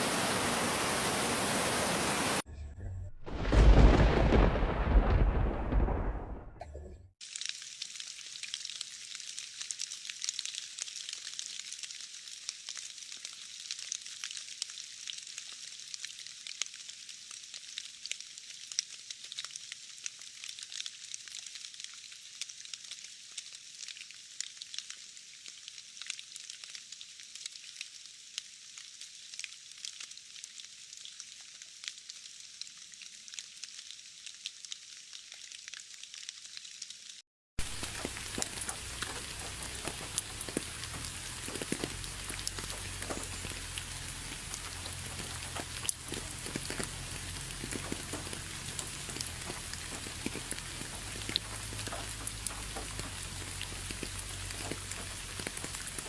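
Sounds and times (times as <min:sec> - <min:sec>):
pouring rain: 0:00.0 - 0:02.5, 0:03.3 - 0:06.6, 0:07.2 - 0:56.0.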